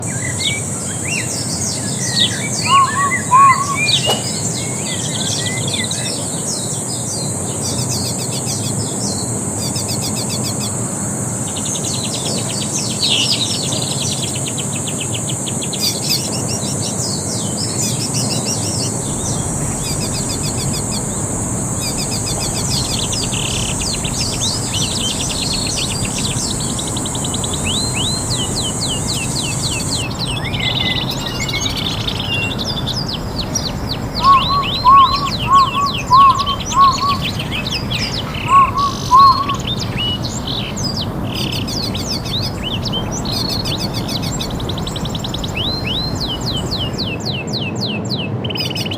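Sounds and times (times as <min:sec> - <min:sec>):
steady high hiss: 0:00.0 - 0:07.0, 0:07.6 - 0:47.1
birds chirping and trilling: 0:00.0 - 0:10.8, 0:11.4 - 0:48.9.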